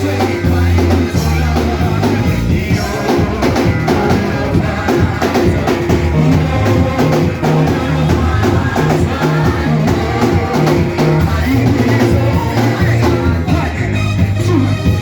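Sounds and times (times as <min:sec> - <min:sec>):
bass line: 0:00.0 - 0:15.0
drum kit beat: 0:00.0 - 0:15.0
voices singing: 0:00.0 - 0:15.0.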